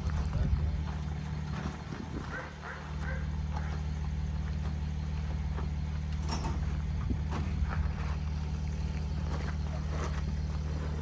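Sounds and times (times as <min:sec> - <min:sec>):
knocks and rattles from crates: 0:00.0 - 0:11.0
van engine idling: 0:00.0 - 0:11.0.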